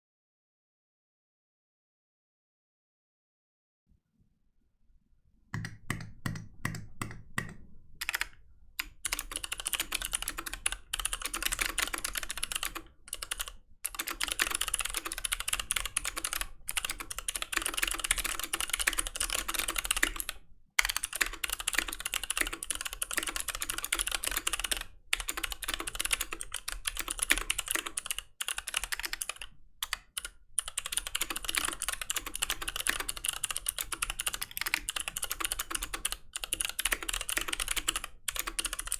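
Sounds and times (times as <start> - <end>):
fast typing on mechanical keyboard: 7.4 - 38.9.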